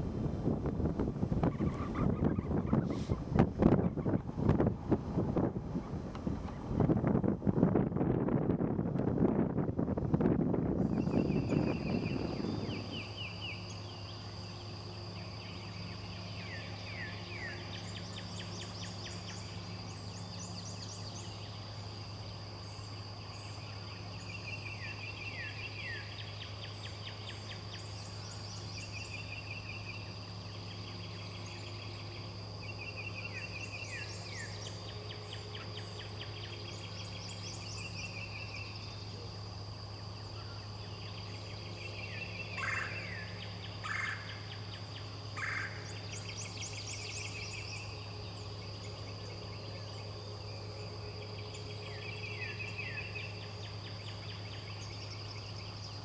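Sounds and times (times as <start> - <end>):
low hum: 0.0 - 56.0
songbirds singing: 0.6 - 7.3, 10.4 - 56.0
loud bird calls: 1.4 - 4.4, 10.7 - 39.4, 40.1 - 56.0.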